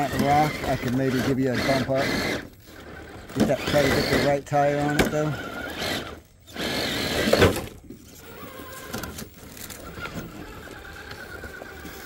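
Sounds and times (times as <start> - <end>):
electric motor and gear whine: 0.0 - 12.0.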